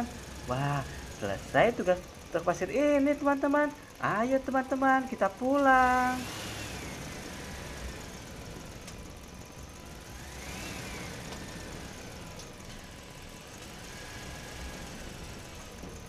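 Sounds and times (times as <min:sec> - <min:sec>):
low engine-like hum with hiss: 0:00.0 - 0:16.0.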